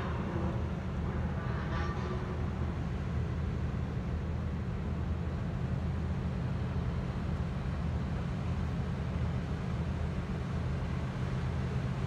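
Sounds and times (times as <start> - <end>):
ship engine rumble: 0.0 - 12.0.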